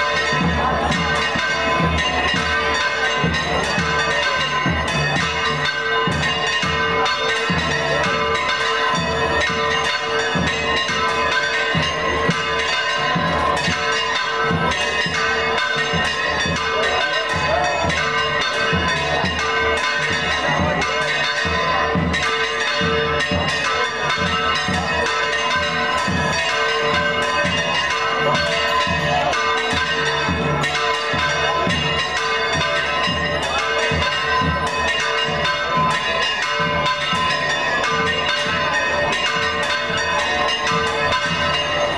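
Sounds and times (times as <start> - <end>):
church bells pealing: 0.0 - 41.9
crowd voices: 0.0 - 41.9.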